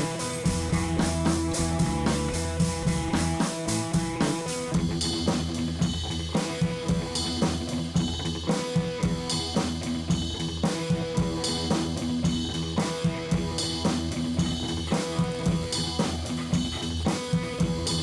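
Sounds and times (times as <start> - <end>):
drum and guitar music: 0.0 - 18.0.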